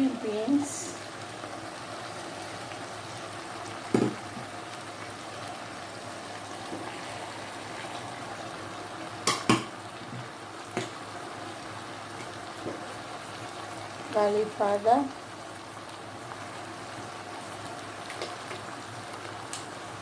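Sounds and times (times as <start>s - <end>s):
vegetables simmering with hiss: 0.0s - 20.0s.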